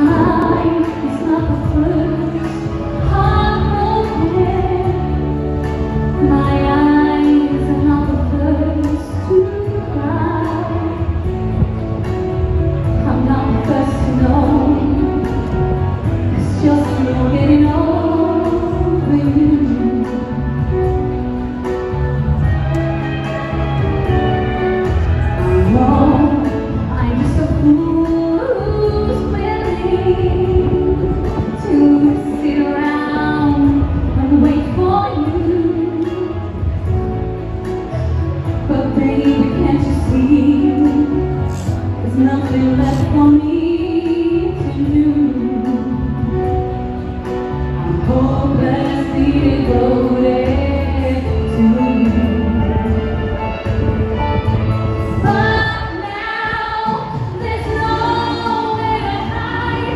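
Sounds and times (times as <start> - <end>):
amplified musical accompaniment: 0.0 - 59.9
woman singing into microphone: 0.0 - 59.9.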